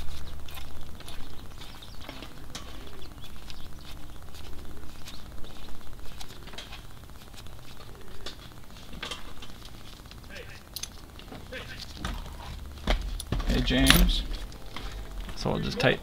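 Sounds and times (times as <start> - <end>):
low steady rumble: 0.0 - 16.0
small birds chirping: 0.0 - 16.0.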